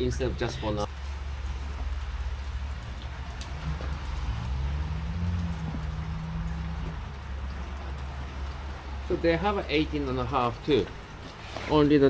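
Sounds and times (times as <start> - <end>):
light rain: 0.0 - 12.0
raindrops ticking: 0.0 - 12.0.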